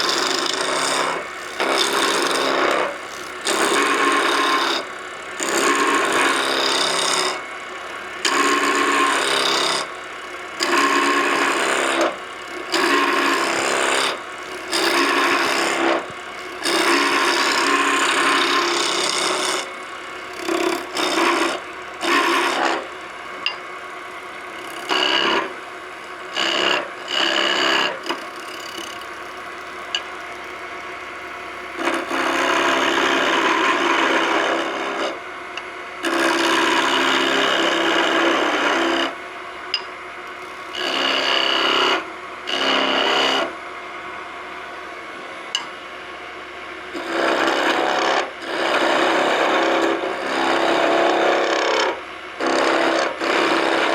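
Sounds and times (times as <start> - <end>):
chisel cutting wood on lathe: 0.0 - 39.2, 39.8 - 43.5, 46.9 - 53.9
wood lathe running: 0.0 - 45.7, 46.9 - 53.9.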